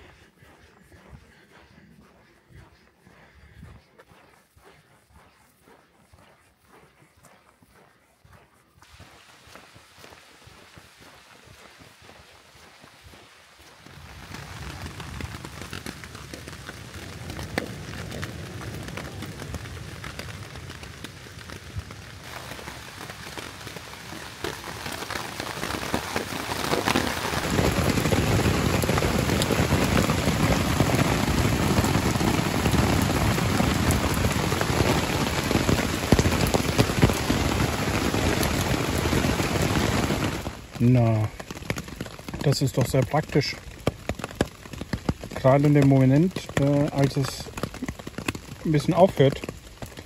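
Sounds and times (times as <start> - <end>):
rain falling: 8.8 - 50.0.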